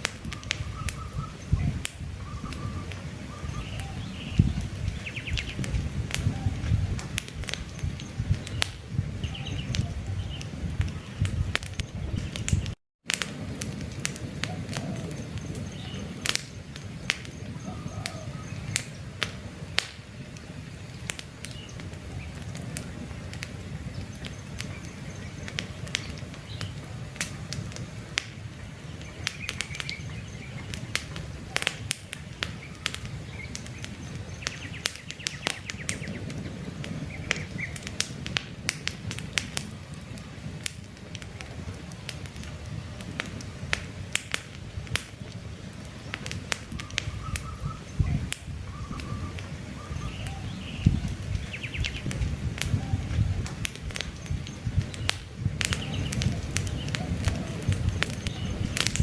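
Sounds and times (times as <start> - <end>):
campfire crackling and popping: 0.0 - 59.0
birds chirping: 0.2 - 12.8, 14.4 - 38.0, 39.3 - 40.5, 45.8 - 59.0.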